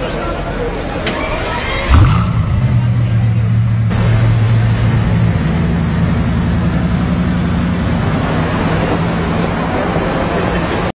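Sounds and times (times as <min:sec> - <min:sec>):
street noise: 0:00.0 - 0:10.9
car engine running low revs: 0:01.2 - 0:10.9.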